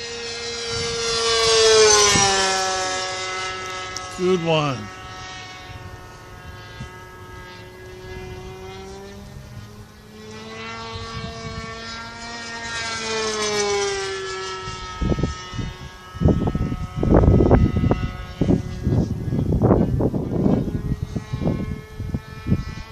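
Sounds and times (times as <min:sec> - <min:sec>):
model airplane engine buzzing: 0:00.0 - 0:22.9
wind buffeting microphone: 0:00.4 - 0:22.9.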